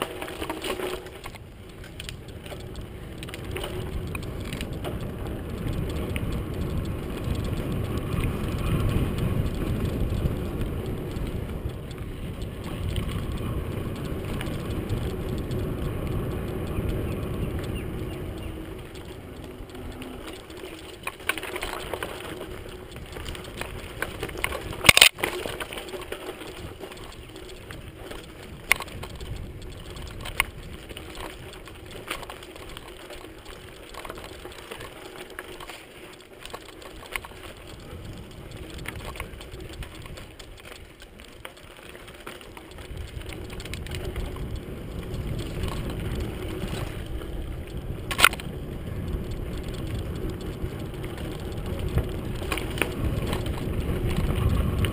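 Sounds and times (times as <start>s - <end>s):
bike rattling clicks and knocks: 0.0s - 54.9s
bike tyres rolling over dirt and stones: 0.0s - 54.9s
wind rumble on microphone: 0.0s - 54.9s.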